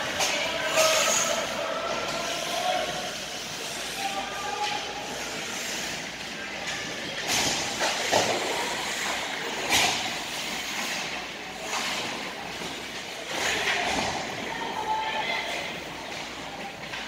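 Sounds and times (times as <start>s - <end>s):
arena noise: 0.0s - 17.0s.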